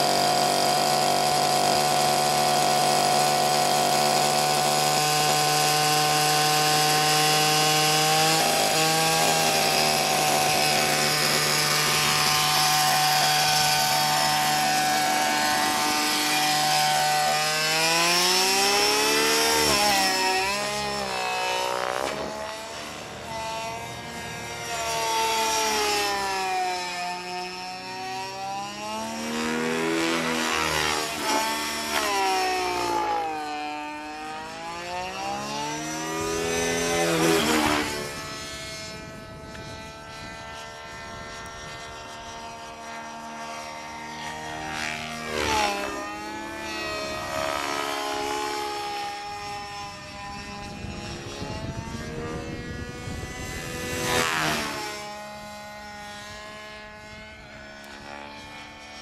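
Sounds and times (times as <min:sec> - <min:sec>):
model helicopter engine and rotors: 0:00.0 - 0:59.0.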